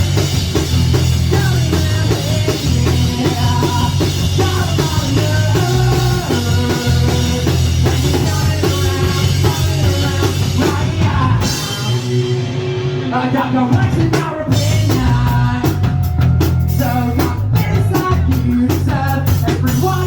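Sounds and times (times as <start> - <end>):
drum kit: 0.0 - 20.0
live rock band playing: 0.0 - 20.0
strong bass: 0.0 - 20.0.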